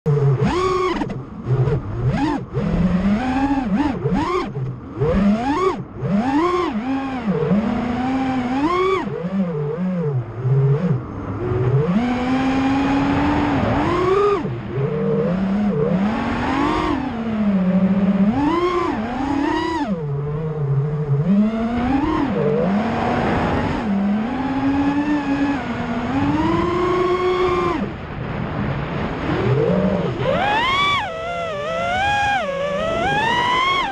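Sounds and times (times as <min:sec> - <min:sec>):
drone motors whining: 0:00.1 - 0:33.9.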